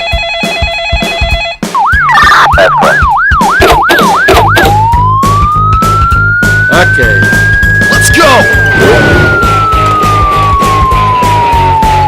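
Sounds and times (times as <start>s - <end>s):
background music with steady beat: 0.0s - 12.0s
siren sound effect wailing: 1.8s - 12.0s.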